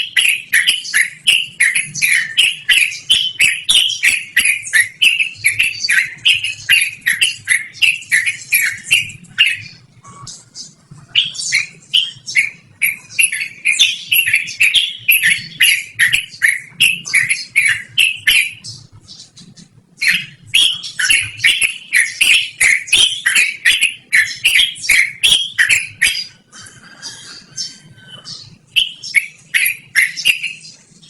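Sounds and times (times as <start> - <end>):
bird singing repeated notes: 0.0 - 31.0.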